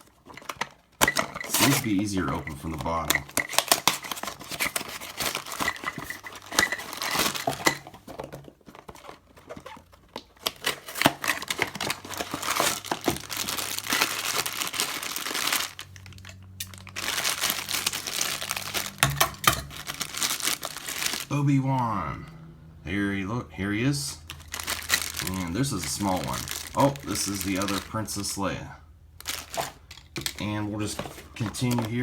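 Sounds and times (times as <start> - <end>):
cardboard tearing and crumpling: 0.0 - 21.3, 24.3 - 28.0, 29.2 - 32.0.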